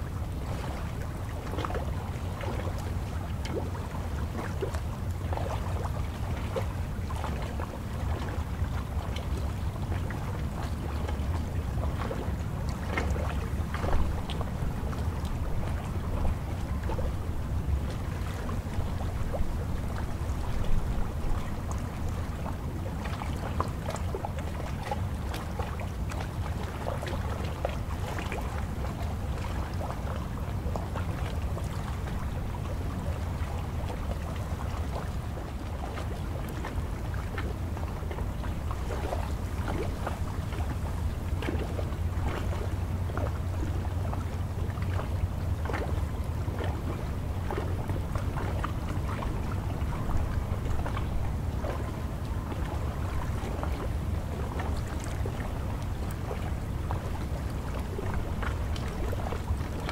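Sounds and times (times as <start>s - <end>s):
water splashing at shore: 0.0s - 59.9s
wind rumble on microphone: 0.0s - 59.9s.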